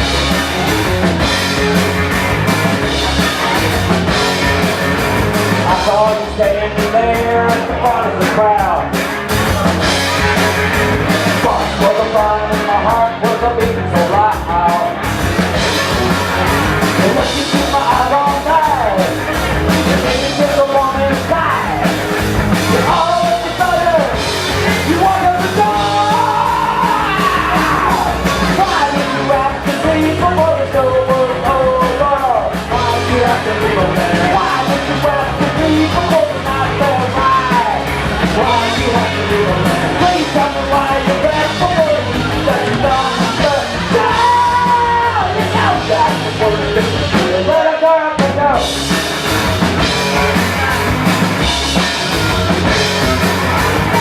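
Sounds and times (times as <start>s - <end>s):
live rock band playing: 0.0s - 54.0s
lead singer singing: 5.4s - 10.4s, 11.1s - 48.8s, 51.1s - 54.0s.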